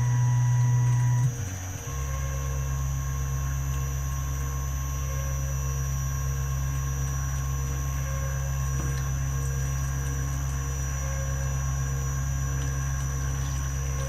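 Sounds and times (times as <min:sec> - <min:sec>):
milling machine humming and whining: 0:00.0 - 0:14.0.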